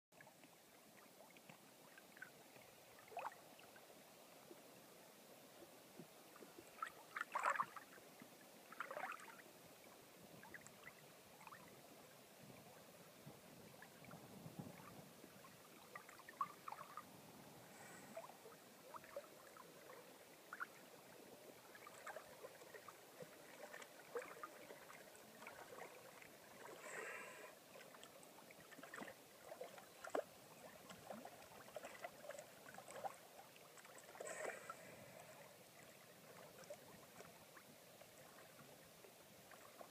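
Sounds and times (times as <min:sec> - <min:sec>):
faint water splashing and lapping: 0:00.1 - 0:39.9.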